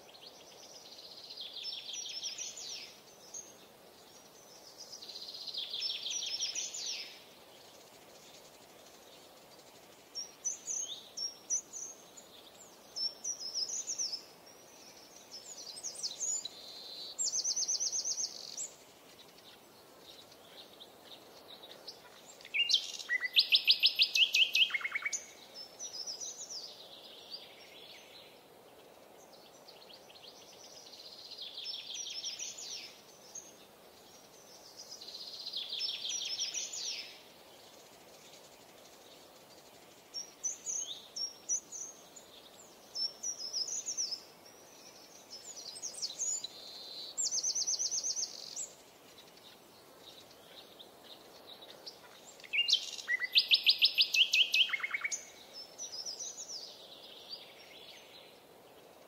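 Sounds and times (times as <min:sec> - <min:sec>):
faint steady hiss: 0:00.0 - 0:59.0
songbird chirps and trills: 0:00.0 - 0:59.0.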